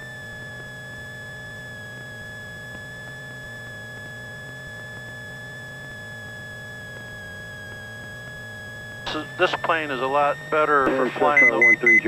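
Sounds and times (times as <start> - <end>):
aircraft engine drone: 0.0 - 12.0
high-pitched whine: 0.0 - 12.0.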